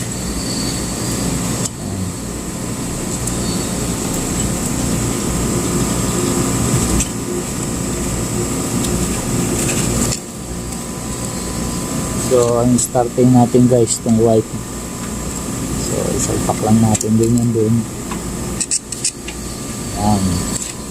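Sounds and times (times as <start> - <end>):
high machine whine: 0.0 - 20.9
machinery humming: 0.0 - 20.9.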